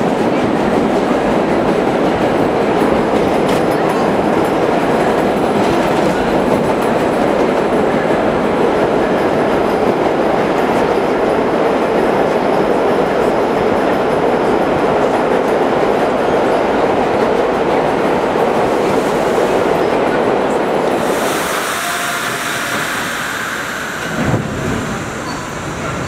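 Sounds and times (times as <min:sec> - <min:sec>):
subway train wheels on track: 0:00.0 - 0:26.0.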